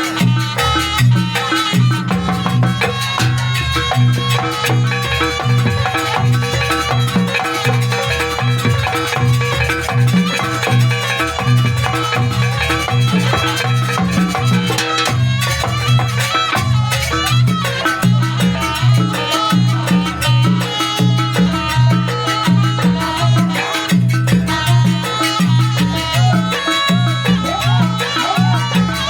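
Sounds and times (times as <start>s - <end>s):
drums driving beat: 0.0s - 29.0s
ringing metallophones: 0.0s - 29.0s.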